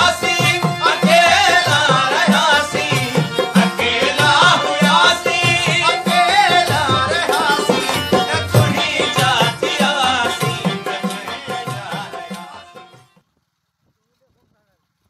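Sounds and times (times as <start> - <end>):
drum beat: 0.0 - 12.9
folk music with singing: 0.0 - 13.3.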